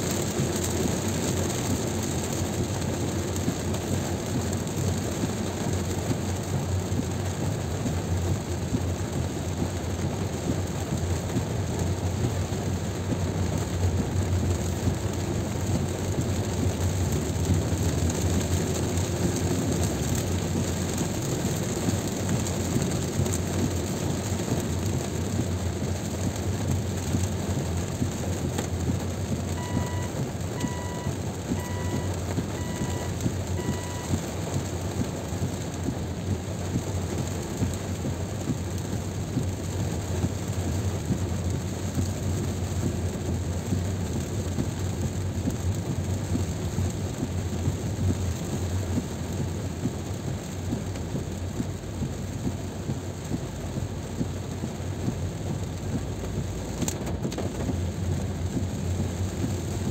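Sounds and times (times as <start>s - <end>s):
rain on car: 0.0s - 59.9s
tyre noise on wet road: 0.0s - 59.9s.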